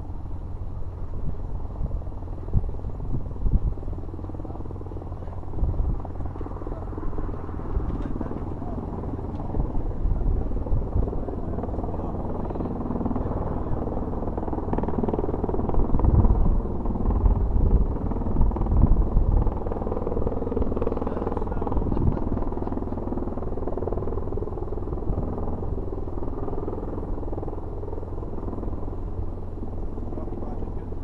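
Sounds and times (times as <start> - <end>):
turboshaft engines rumbling: 0.0 - 31.0
tiltrotor aircraft rotors thumping: 0.6 - 31.0.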